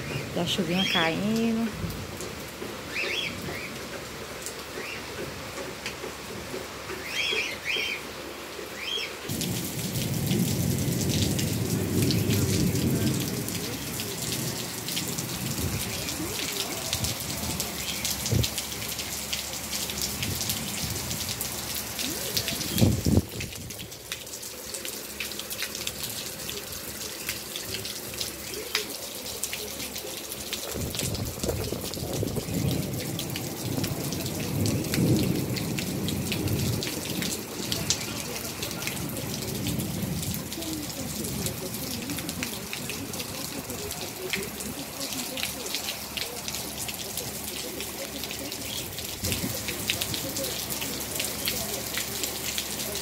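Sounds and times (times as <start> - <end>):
heavy rain on ground: 0.0 - 53.0.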